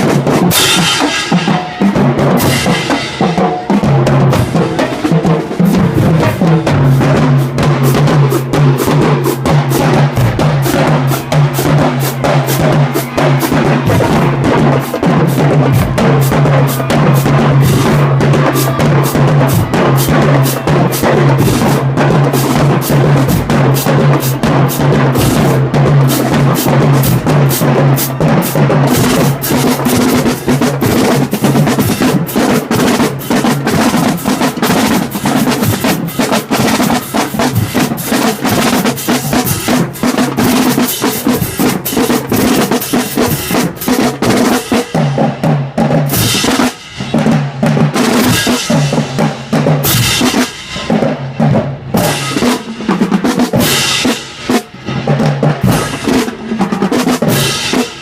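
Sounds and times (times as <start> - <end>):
pitched bass drums: 0.0 - 58.0
snare drum strokes and rolls: 0.0 - 58.0.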